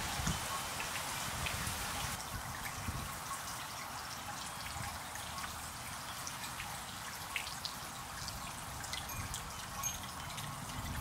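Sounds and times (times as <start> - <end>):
garden fountain splashing: 0.0 - 11.0
water droplets ticking: 2.2 - 11.0.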